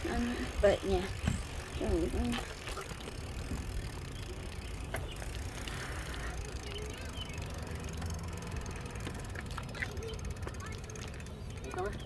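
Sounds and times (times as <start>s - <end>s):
bicycle riding noise: 0.0s - 12.0s.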